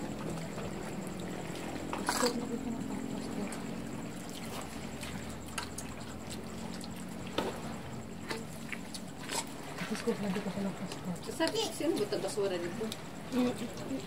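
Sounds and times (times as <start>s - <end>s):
faint high whine: 0.0s - 14.0s
low hum: 0.0s - 14.0s.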